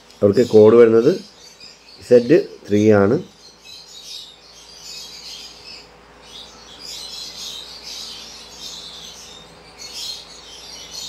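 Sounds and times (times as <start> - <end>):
faint steady hum: 0.0 - 11.0
pet birds chirping and twittering: 0.0 - 11.0.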